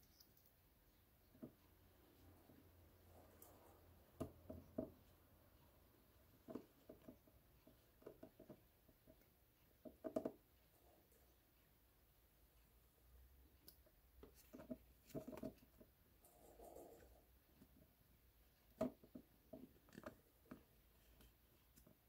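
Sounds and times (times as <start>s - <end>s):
faint clicks and taps: 3.4s - 22.0s.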